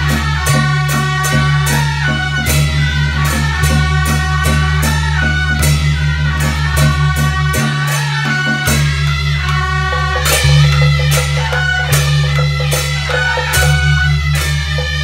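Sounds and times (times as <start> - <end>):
percussion strikes: 0.0 - 15.0
reed horns playing a melody: 0.0 - 15.0.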